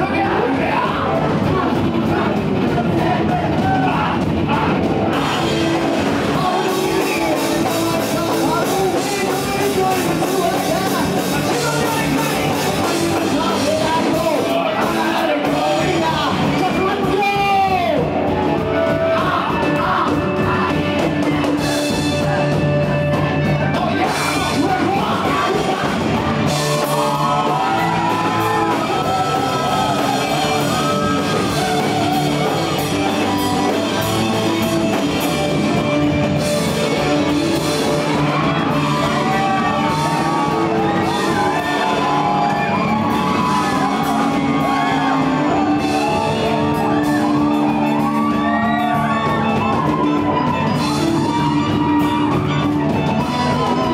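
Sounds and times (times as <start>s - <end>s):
electric guitars: 0.0s - 53.9s
punk rock band playing live: 0.0s - 53.9s.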